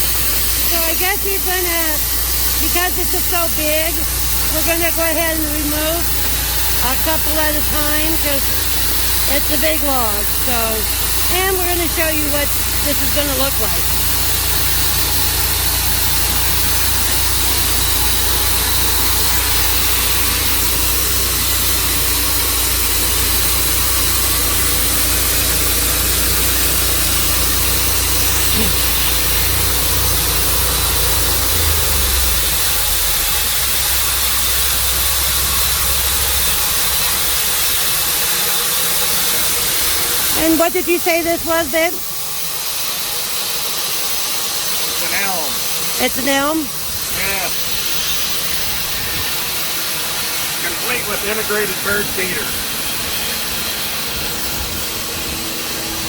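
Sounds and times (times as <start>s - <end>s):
loud even hiss: 0.0s - 56.0s
sawmill engine running: 0.0s - 56.0s.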